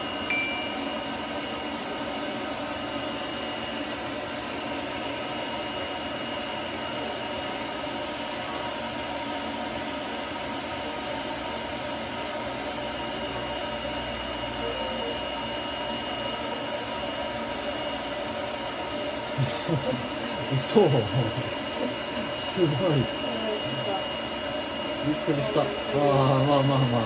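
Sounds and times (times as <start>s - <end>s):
dryer blowing air with whine: 0.0s - 27.0s.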